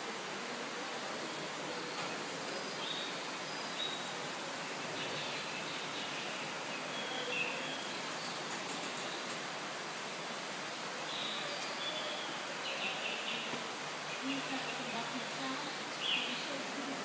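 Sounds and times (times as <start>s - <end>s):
greenhouse ambience hiss: 0.0s - 17.0s.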